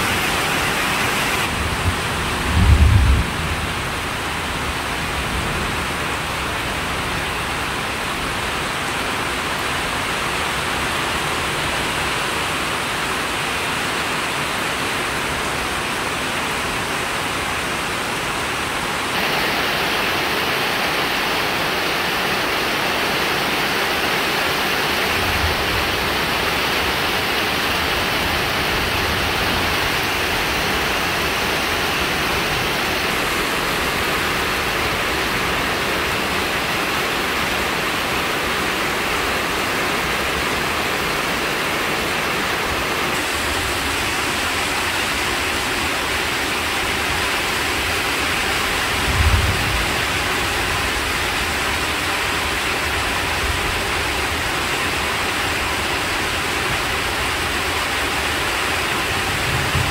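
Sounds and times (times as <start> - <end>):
heavy rain on vegetation: 0.0 - 59.9.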